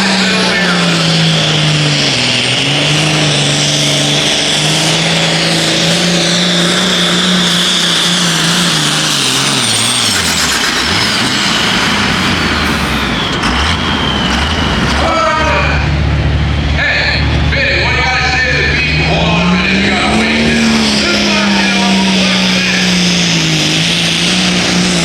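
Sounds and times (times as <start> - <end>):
diesel engine running hard: 0.0 - 25.0
turbo whine: 0.0 - 25.0.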